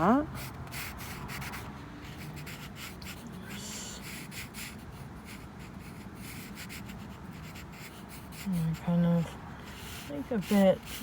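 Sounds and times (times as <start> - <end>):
pen scratching on paper: 0.3 - 11.0.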